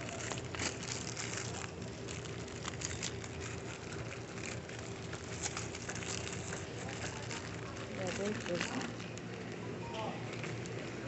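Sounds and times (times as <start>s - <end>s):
small clicks and crackles: 0.0s - 11.0s
steady hum: 0.0s - 11.0s.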